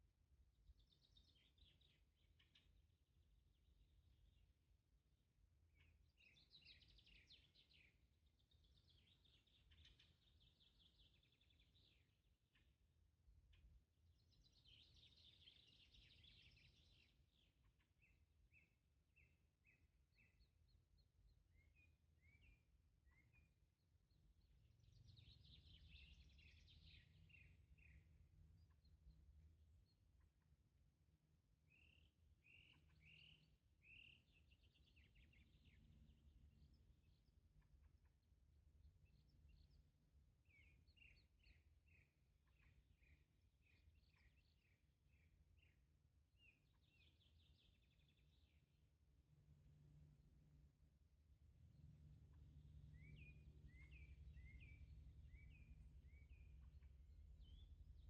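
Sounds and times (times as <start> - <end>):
faint songbirds chirping: 0.0 - 58.0.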